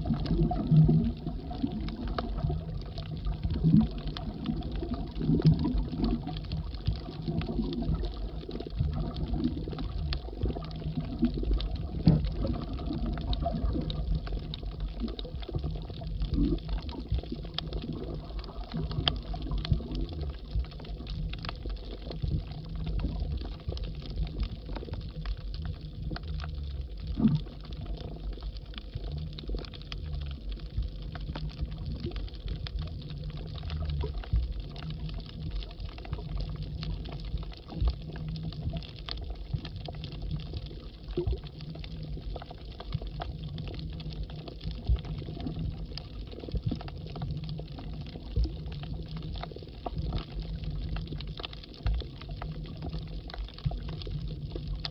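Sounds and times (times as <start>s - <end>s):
sharp underwater clicks: 0.0s - 54.9s
underwater water rumble: 0.0s - 54.9s.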